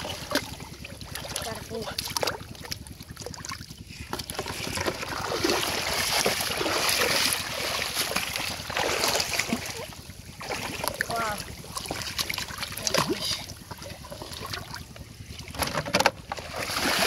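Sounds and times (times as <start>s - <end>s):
water splashing from wading: 0.0s - 17.0s.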